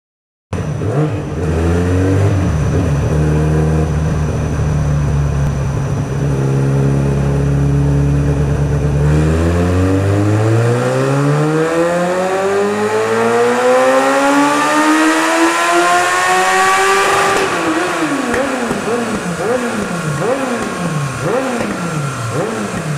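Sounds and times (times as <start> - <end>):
sports bike engine revving: 0.6 - 22.9.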